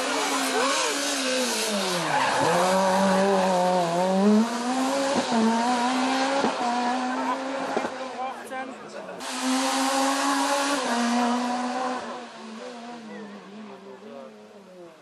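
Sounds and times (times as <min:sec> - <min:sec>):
rally car engine revving: 0:00.0 - 0:08.5, 0:09.1 - 0:15.0.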